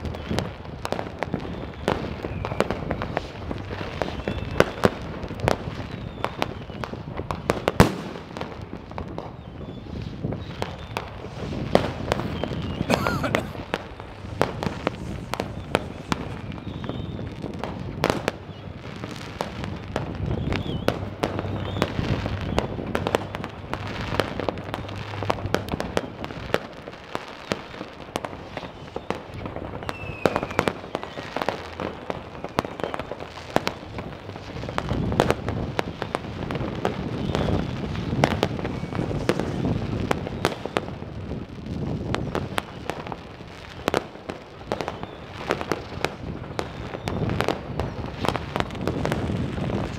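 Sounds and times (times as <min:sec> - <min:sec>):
faint rocket whistles: 0:00.0 - 0:49.9
fireworks bangs and crackles: 0:00.0 - 0:49.9.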